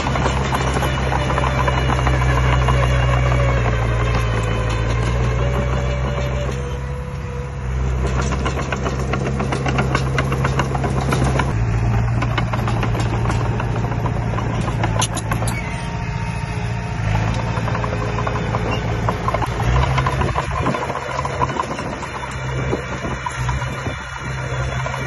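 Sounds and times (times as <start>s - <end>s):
clicks and clanks: 0.0s - 7.0s, 7.9s - 16.1s, 17.1s - 25.0s
heavy machine engine running: 0.0s - 25.0s.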